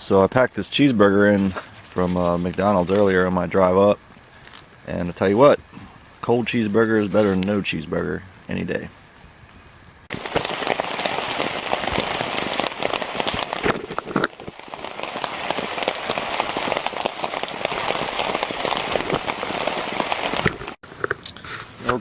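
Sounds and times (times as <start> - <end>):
heavy rain pattering: 0.0 - 9.2, 10.0 - 20.8.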